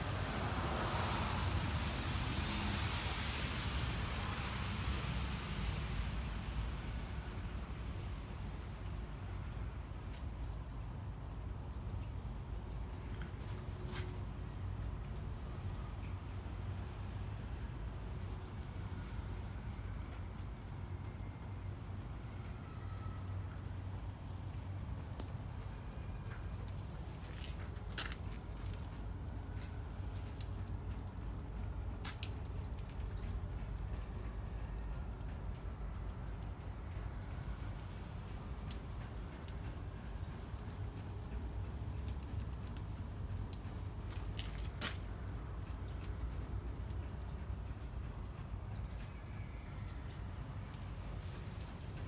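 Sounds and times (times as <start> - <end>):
water dripping off roof: 0.0 - 52.0.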